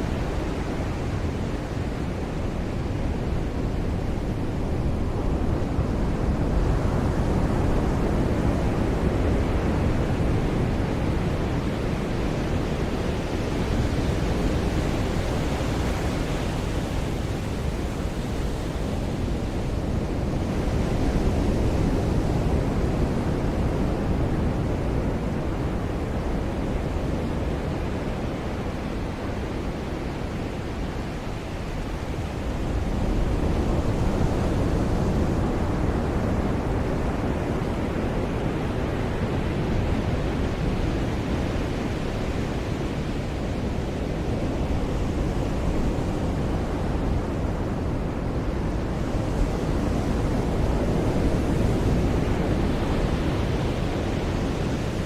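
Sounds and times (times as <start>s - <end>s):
ocean surf washing onto beach: 0.0s - 55.0s
wind on microphone: 0.0s - 55.0s.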